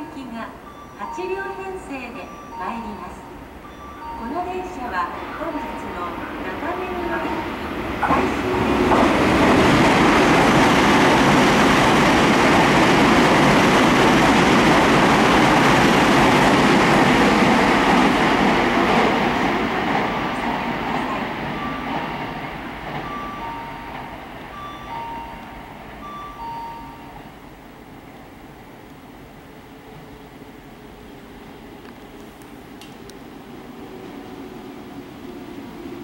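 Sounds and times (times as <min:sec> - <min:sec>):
train running on rails: 0:00.0 - 0:36.0.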